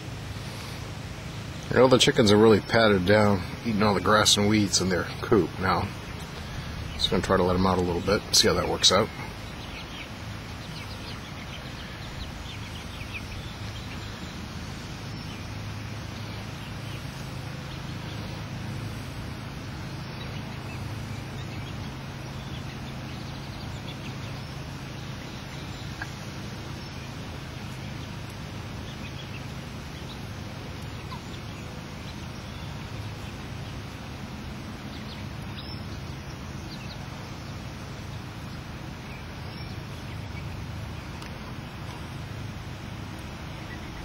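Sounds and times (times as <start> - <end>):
chickens peeping and clucking: 0.0 - 44.0
steady low hum: 0.0 - 44.0.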